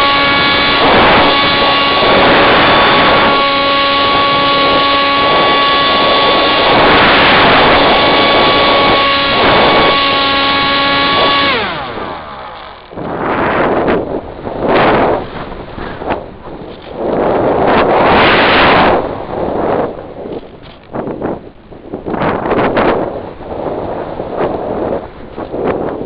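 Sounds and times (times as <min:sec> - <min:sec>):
model plane motor whining: 0:00.0 - 0:21.1
wind rushing over microphone: 0:00.0 - 0:26.0.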